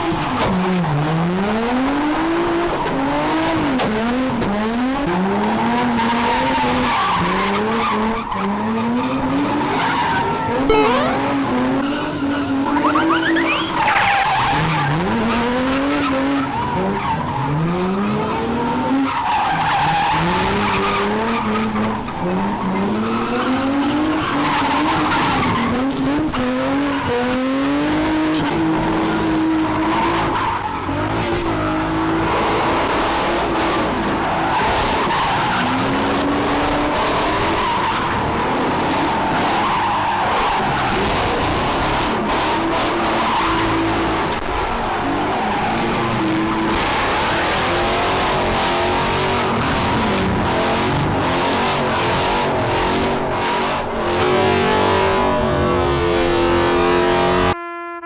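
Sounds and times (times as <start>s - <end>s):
tyres skidding and squealing: 4.9s - 57.6s.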